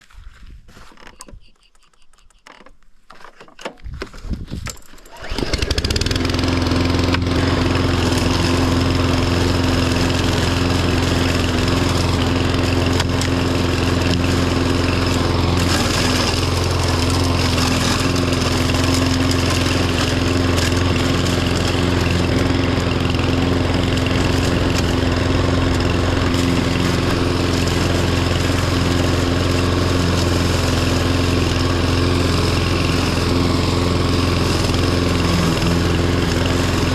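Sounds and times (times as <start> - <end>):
mower engine cranking and running: 0.8 - 36.9.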